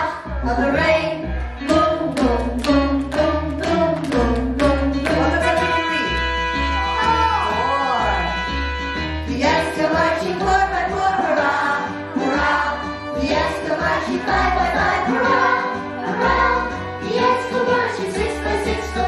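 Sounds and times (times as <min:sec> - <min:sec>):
children's song singing: 0:00.0 - 0:05.7, 0:09.3 - 0:19.0
instrumental backing with bass: 0:00.0 - 0:19.0.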